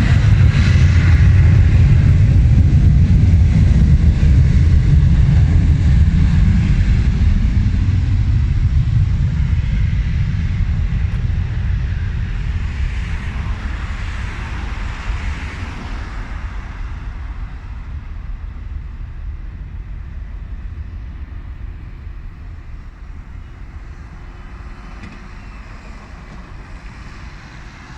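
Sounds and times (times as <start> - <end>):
jet airliner passing: 0.0 - 27.9.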